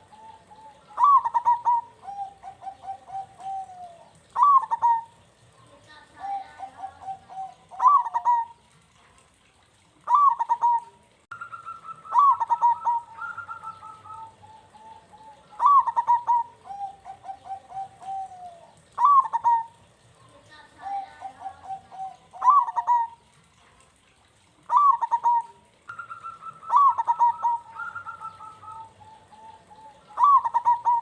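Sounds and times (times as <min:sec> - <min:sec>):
doves cooing: 0:00.0 - 0:09.0, 0:10.0 - 0:23.6, 0:24.5 - 0:31.0.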